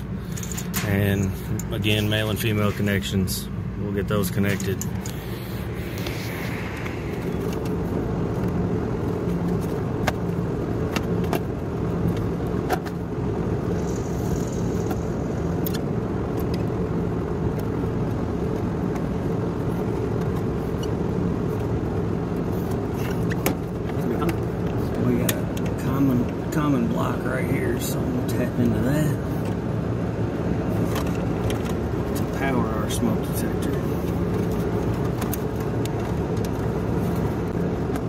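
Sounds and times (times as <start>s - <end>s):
low mechanical rumble: 0.0s - 38.0s.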